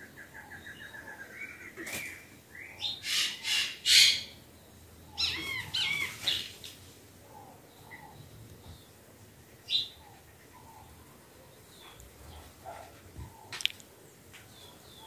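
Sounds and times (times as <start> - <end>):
birds calling harshly: 0.0 - 13.8.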